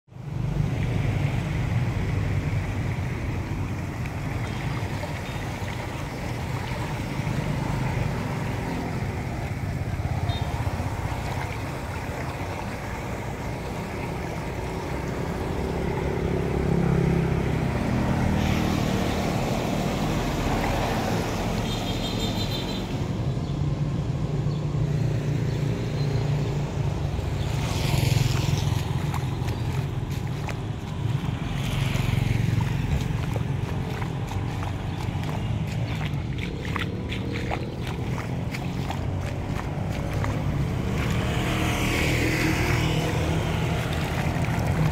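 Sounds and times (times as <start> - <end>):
street traffic: 0.0 - 44.9
water splashing: 0.1 - 23.3, 24.8 - 44.9
rainwater running into drain: 0.2 - 21.7, 27.3 - 44.9.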